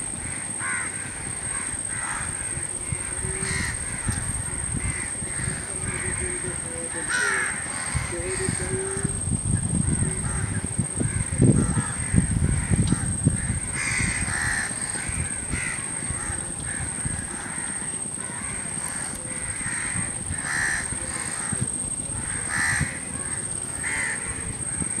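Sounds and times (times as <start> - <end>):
crows cawing: 0.1 - 25.0.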